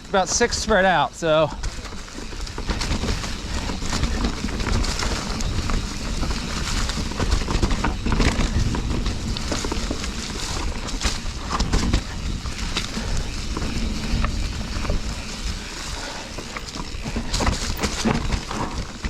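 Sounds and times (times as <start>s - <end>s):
bike clicks and rattles: 0.0s - 19.0s
tyres rumbling on dirt and rock: 0.0s - 19.0s.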